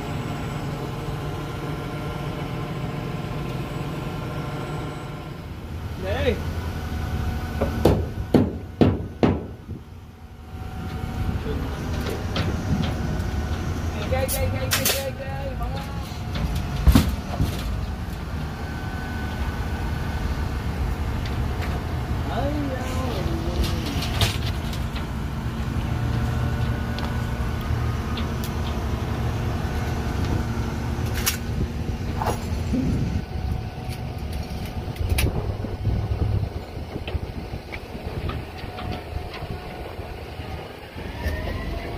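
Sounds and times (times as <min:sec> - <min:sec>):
low engine rumble: 0:00.0 - 0:41.9.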